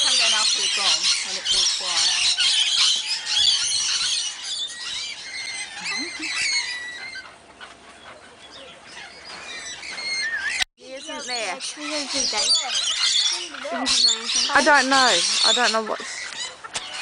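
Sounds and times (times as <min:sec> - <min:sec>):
parrots screeching and chattering: 0:00.0 - 0:17.0.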